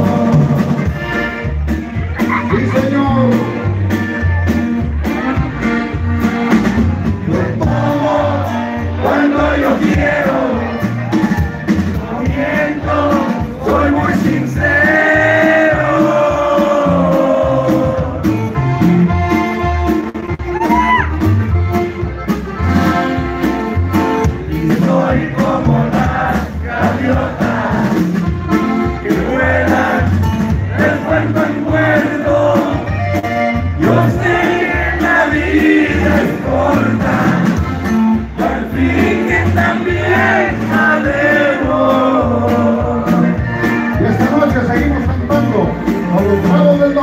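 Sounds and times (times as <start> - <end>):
button accordion melody: 0.0 - 47.0
drums and bass: 0.0 - 47.0.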